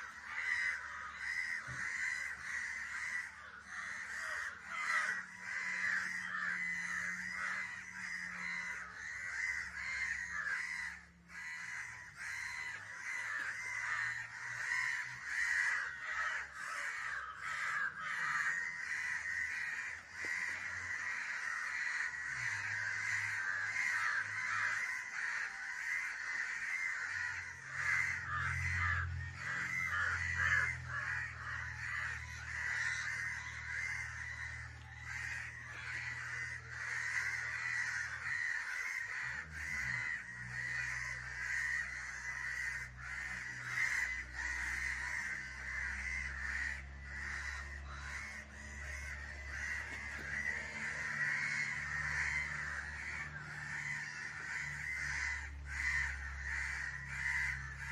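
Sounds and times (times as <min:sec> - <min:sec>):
crows cawing: 0:00.0 - 0:57.9.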